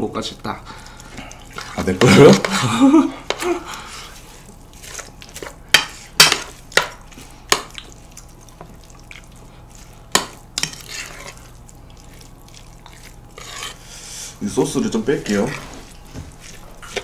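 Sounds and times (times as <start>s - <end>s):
spoon stirring noodles: 0.8s - 14.0s, 14.9s - 17.0s.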